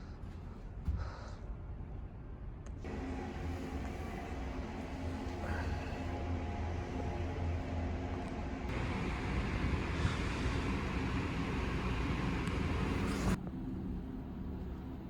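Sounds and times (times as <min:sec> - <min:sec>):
ferry low hum and rumble: 0:00.0 - 0:15.0.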